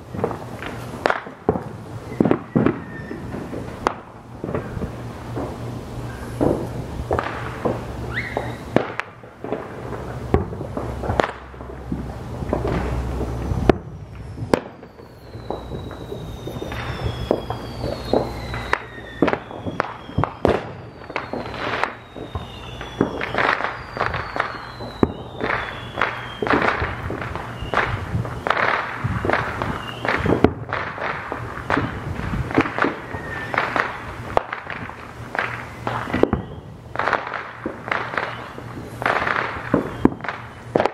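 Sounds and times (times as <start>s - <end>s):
fireworks bangs and crackling: 0.0s - 40.9s
fireworks falling whistles: 0.0s - 40.9s.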